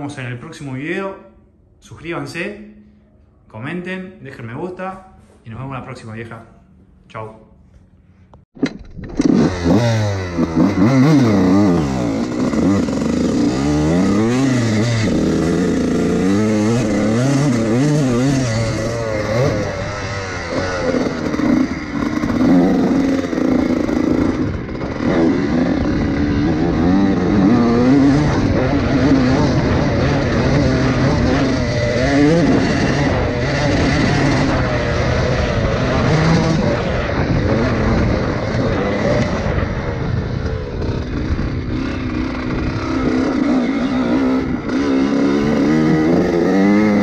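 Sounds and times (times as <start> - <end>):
motorcycle engine revving: 8.6 - 47.0.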